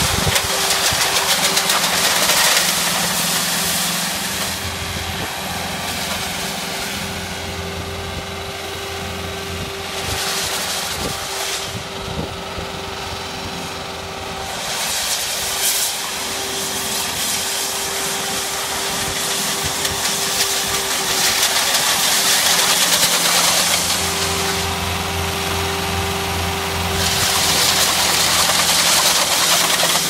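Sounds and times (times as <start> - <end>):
power trowel engine whining: 0.0 - 30.0.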